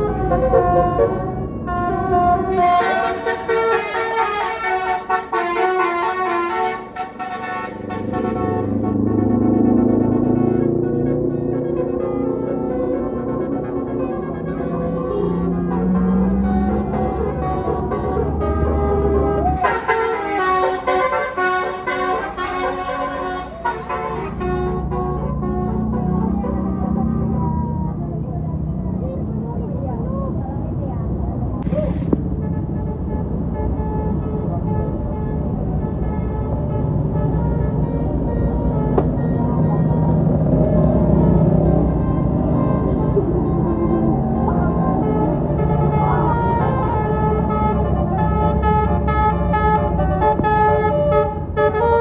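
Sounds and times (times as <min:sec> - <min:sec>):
bus horn playing a melody: 0:00.0 - 0:27.4, 0:32.2 - 0:52.0.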